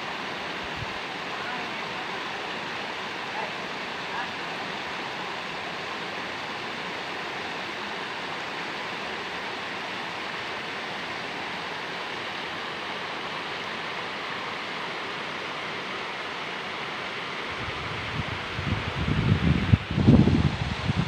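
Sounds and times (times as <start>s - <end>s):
waterfall rushing and splashing: 0.0s - 21.0s.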